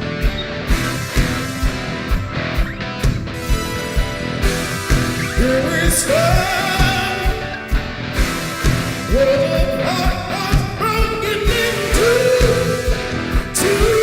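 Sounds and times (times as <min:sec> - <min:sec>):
rock band music: 0:00.0 - 0:14.0
sliding sung notes: 0:00.0 - 0:14.0
steady kick drum beat: 0:00.0 - 0:14.0.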